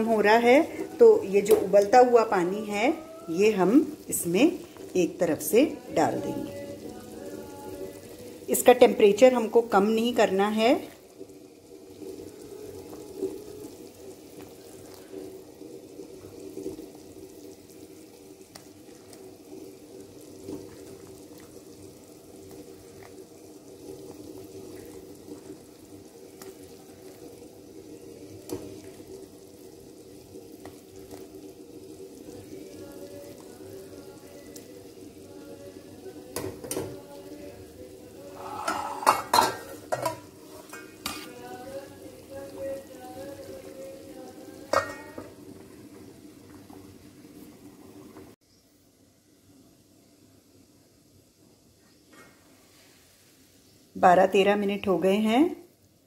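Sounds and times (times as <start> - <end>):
syrup boiling with bubbling hiss: 0.0 - 56.0.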